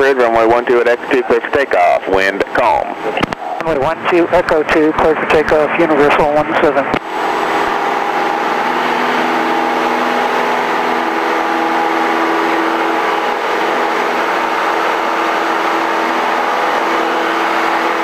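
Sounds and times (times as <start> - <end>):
airplane piston engine droning: 0.0 - 18.0.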